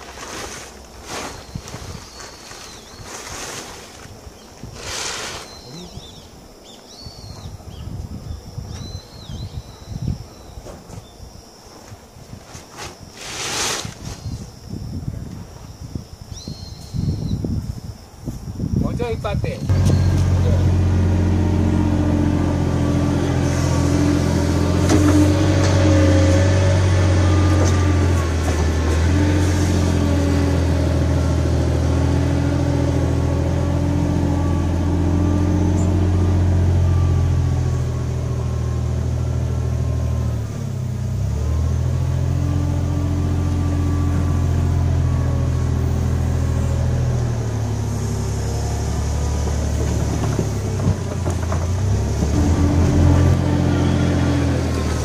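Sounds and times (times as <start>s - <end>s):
engine running low: 0.0s - 55.0s.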